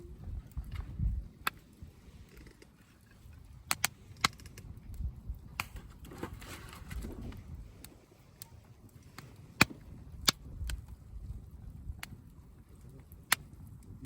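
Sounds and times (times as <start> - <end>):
campfire crackling: 0.0 - 14.0
low rumble of flames: 0.0 - 14.0.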